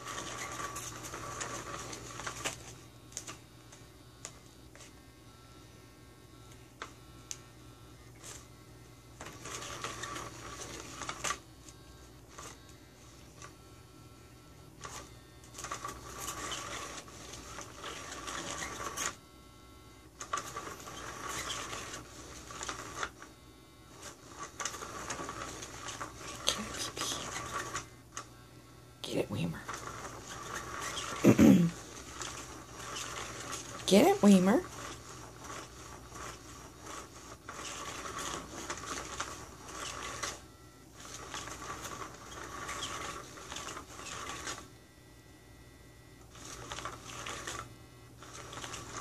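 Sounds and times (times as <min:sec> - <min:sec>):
small toy motor running: 0:00.0 - 0:04.0, 0:06.4 - 0:13.8, 0:14.5 - 0:19.2, 0:20.2 - 0:28.4, 0:29.2 - 0:44.8, 0:46.2 - 0:49.0.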